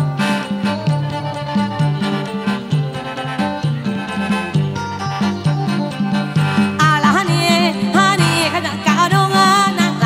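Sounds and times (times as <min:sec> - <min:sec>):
band playing instrumental: 0:00.0 - 0:10.0.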